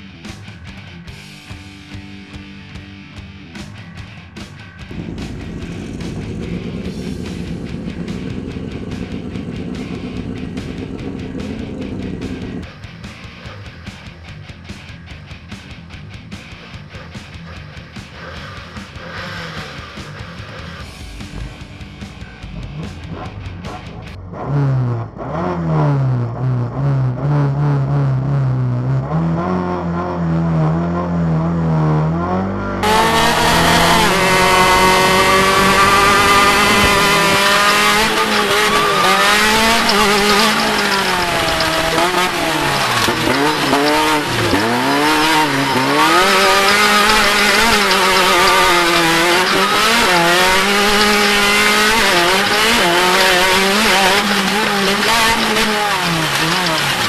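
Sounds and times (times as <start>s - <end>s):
tyre and dirt noise: 3.4s - 57.0s
racing engine revving: 3.5s - 57.0s.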